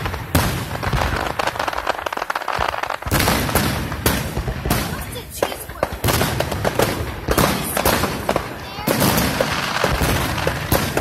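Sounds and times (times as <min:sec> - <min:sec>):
firework shells bursting: 0:00.0 - 0:11.0
fireworks crackling: 0:00.0 - 0:11.0.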